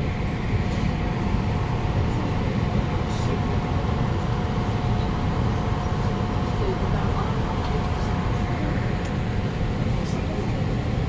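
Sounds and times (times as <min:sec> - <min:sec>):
mid-pitched hum: 0:00.0 - 0:11.0
train carriage rumble: 0:00.0 - 0:11.0.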